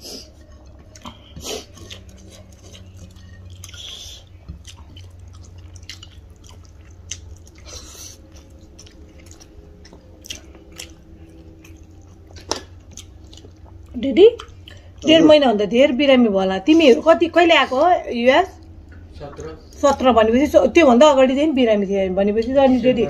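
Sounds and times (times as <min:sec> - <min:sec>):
people chewing food: 0:00.0 - 0:16.0, 0:16.7 - 0:20.2
low steady hum: 0:00.0 - 0:23.0.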